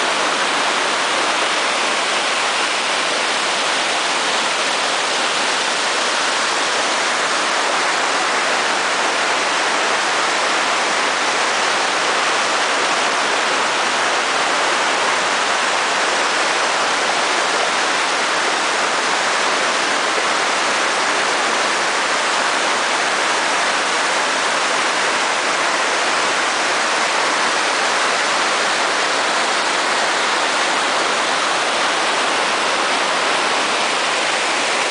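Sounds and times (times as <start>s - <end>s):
waterfall rushing over rocks: 0.0s - 34.9s.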